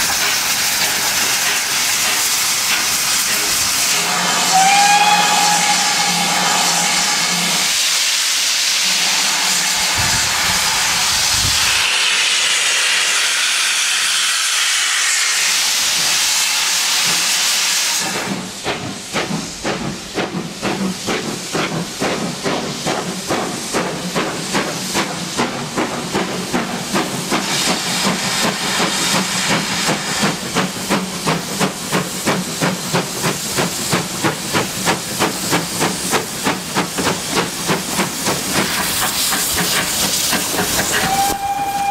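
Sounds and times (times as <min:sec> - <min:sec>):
hiss of escaping steam: 0:00.0 - 0:41.9
steam locomotive chuffing: 0:00.0 - 0:41.9.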